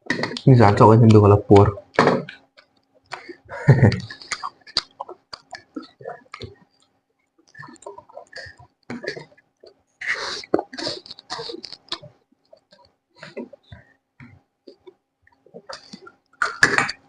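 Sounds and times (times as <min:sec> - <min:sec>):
person chewing and smacking: 0:00.0 - 0:17.0.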